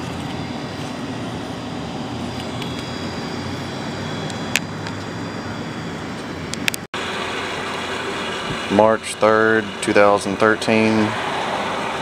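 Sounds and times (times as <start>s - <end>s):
low hum: 0.0s - 12.0s
traffic noise: 0.0s - 12.0s.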